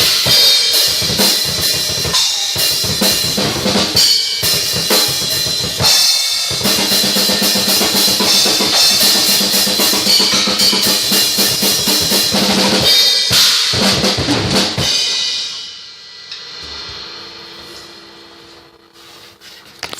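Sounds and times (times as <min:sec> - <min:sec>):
ringing cymbals: 0:00.0 - 0:13.8, 0:14.8 - 0:19.0
bass drum and snare strokes: 0:00.0 - 0:15.7, 0:16.3 - 0:19.8.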